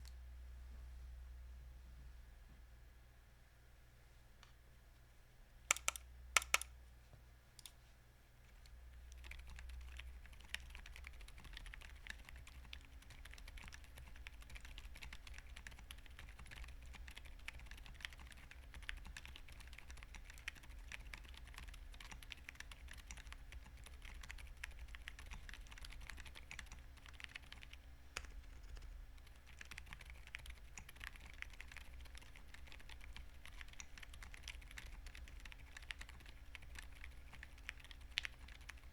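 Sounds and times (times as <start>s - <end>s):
quiet keyboard keystrokes: 5.7s - 6.8s, 7.5s - 38.9s.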